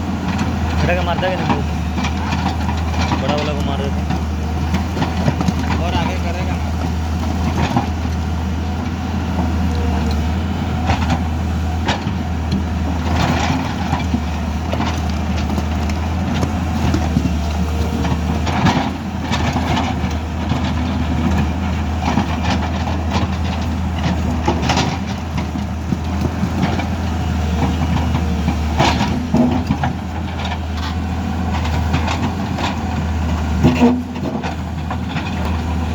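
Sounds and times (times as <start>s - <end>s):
diesel excavator engine running: 0.0s - 35.9s
rock and metal clanking: 0.1s - 35.9s.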